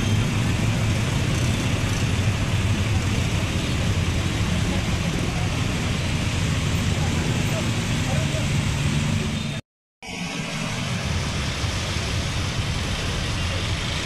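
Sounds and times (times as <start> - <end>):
road noise hiss: 0.0 - 14.0
vehicle engine hum: 0.0 - 14.0.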